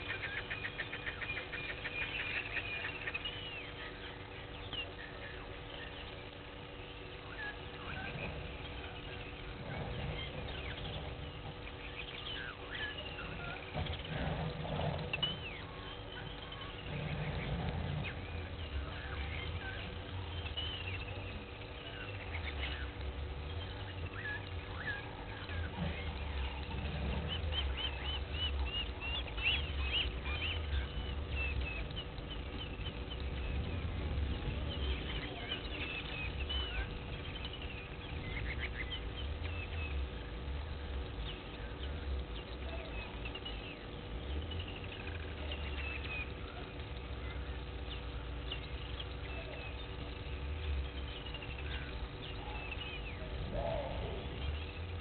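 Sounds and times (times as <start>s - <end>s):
birds chirping and whistling: 0.0s - 55.0s
faint steady hum: 0.0s - 55.0s
low rumble: 3.0s - 55.0s.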